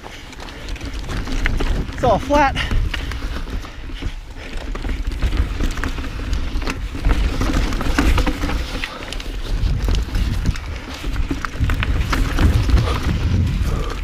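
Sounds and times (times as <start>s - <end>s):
bike clicks and rattles: 0.0s - 14.0s
bike tyres crunching over dirt: 0.0s - 14.0s
wind rumble on microphone: 0.6s - 14.0s.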